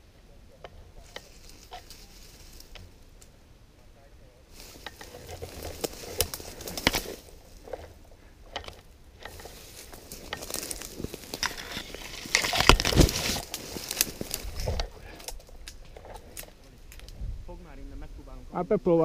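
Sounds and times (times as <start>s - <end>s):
crunching and rustling: 0.5s - 3.3s, 4.5s - 17.2s.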